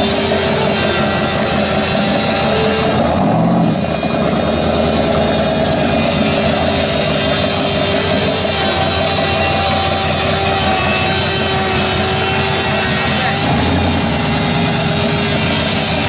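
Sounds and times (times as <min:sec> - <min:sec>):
hot rod engine pulsing exhaust: 0:00.0 - 0:16.0.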